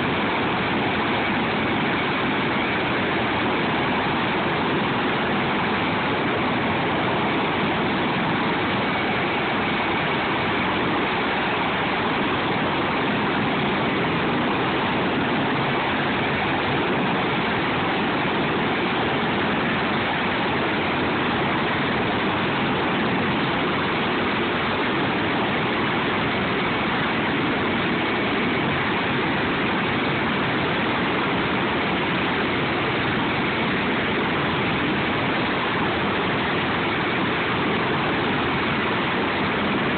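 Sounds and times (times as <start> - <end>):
helicopter rotor and engine noise: 0.0 - 39.9.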